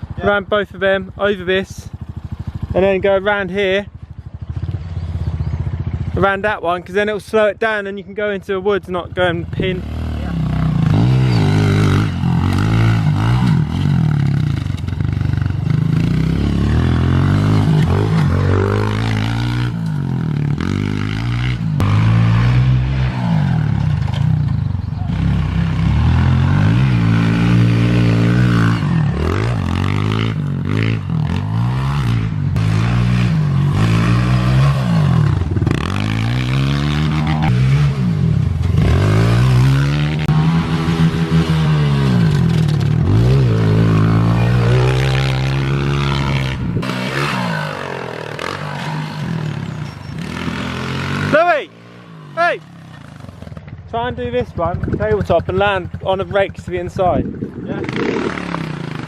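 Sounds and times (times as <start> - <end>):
pit bike engine revving: 9.1 - 59.0.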